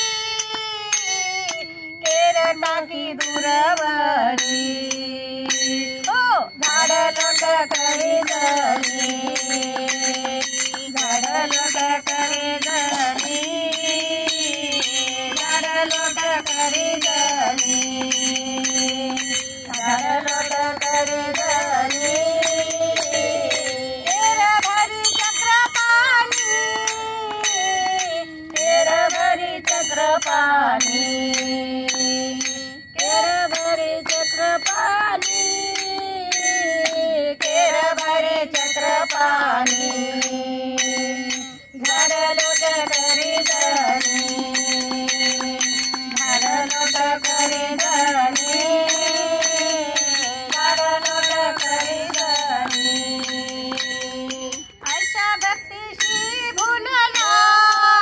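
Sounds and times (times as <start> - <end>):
small brass hand cymbals: 0.0 - 58.0
women singing together: 0.0 - 58.0.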